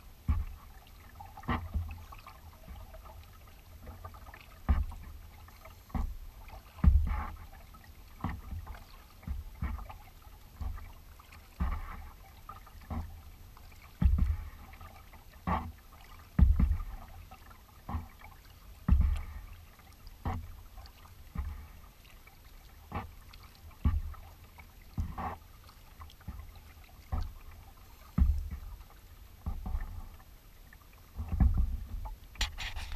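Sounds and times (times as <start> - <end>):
paddle splashing: 0.0 - 32.9.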